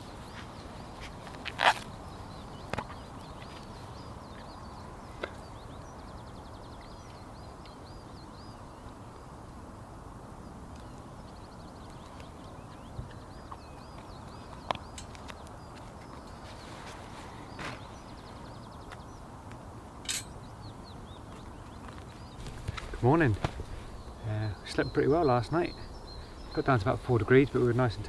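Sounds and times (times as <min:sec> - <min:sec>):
songbird singing trills: 0:00.0 - 0:09.4, 0:10.4 - 0:19.4, 0:20.1 - 0:28.0.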